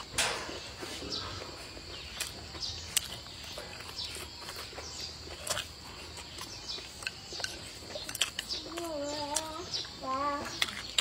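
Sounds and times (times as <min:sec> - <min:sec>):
chewing with mouth clicks: 0:01.2 - 0:11.0.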